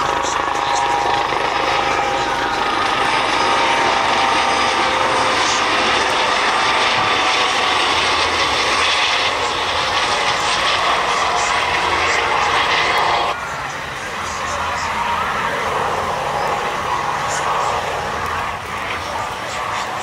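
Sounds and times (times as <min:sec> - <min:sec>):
helicopter flying past: 0:00.0 - 0:20.0
turbine whine: 0:00.0 - 0:20.0.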